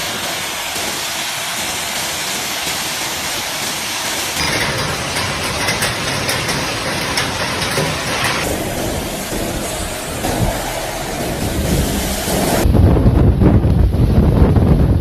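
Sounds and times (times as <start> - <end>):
heavy rain and hail: 0.0 - 12.6.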